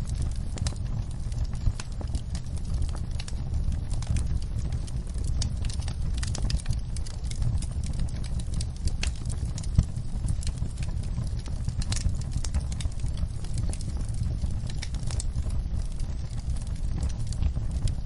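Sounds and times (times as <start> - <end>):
rain pattering: 0.0 - 18.0
wood fire crackling: 0.0 - 18.0.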